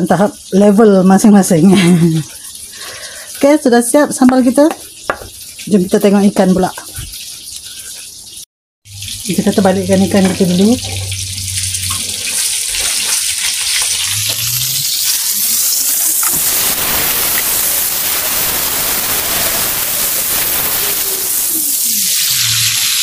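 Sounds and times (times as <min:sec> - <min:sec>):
fish sizzling in a frying pan: 0:00.0 - 0:23.0.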